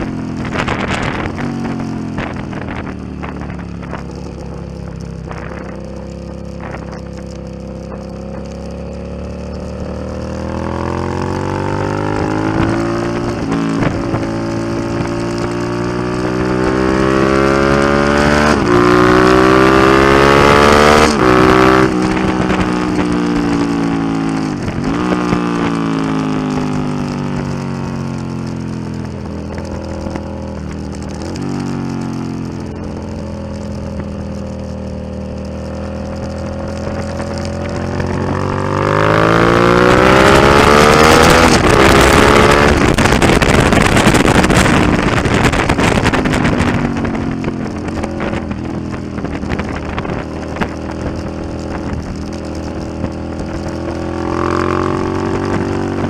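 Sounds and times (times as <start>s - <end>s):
motorcycle engine accelerating: 0.0s - 56.0s
wind rushing on microphone: 0.0s - 56.0s.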